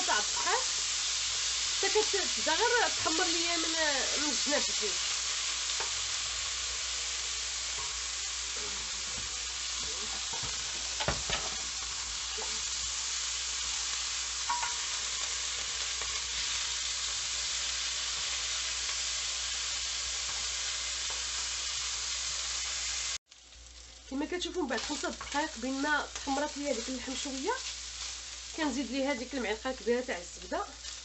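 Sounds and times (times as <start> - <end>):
beef sizzling in a pan: 0.0 - 31.0.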